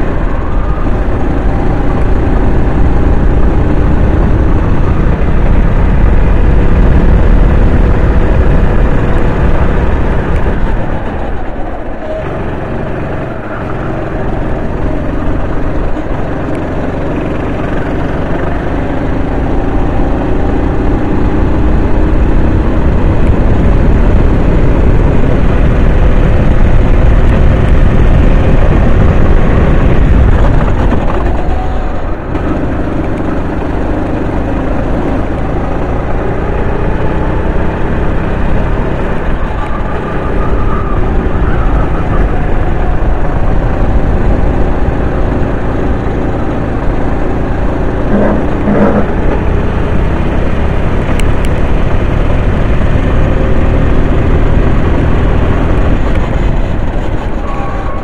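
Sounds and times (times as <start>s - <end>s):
heavy low rumble: 0.0s - 58.0s
racing kart engine: 0.0s - 58.0s.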